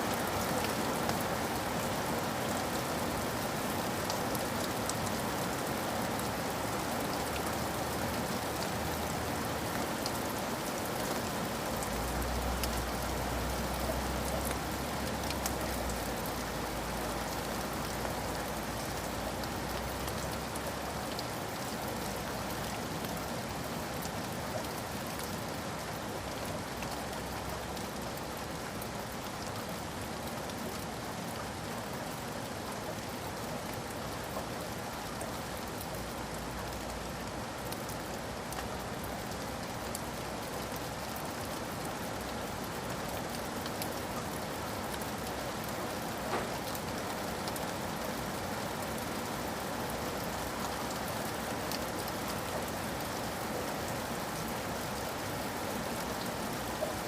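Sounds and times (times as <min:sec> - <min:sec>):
raindrops pattering: 0:00.0 - 0:57.0
steady rain falling: 0:00.0 - 0:57.0.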